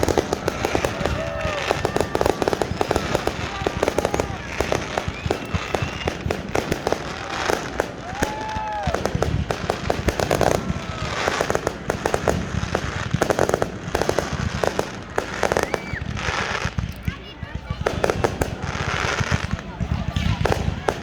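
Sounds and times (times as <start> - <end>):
whistling firework shells: 0.0 - 17.0
fireworks bangs and crackling: 0.0 - 21.0.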